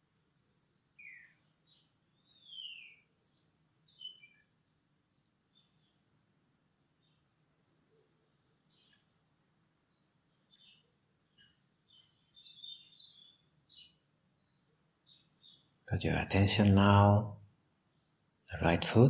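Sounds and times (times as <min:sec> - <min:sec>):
small birds chirping: 0:00.7 - 0:19.0.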